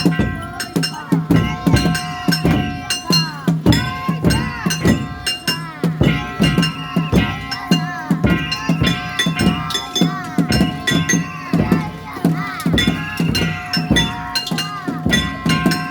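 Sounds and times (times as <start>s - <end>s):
clanging metal gongs: 0.0s - 15.9s
taiko drums: 0.0s - 15.9s.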